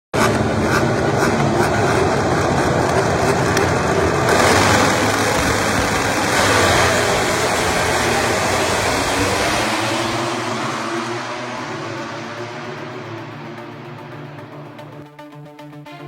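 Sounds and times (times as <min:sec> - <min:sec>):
racing motorcycle engines: 0:00.1 - 0:15.1.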